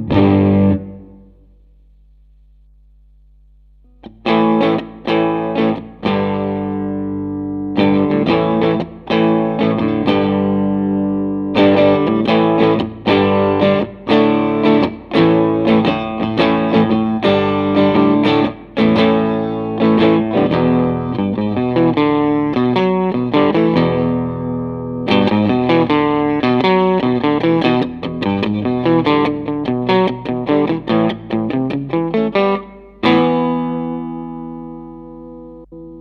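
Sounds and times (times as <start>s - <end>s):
electric guitar chords: 0.0s - 1.8s, 3.8s - 36.0s.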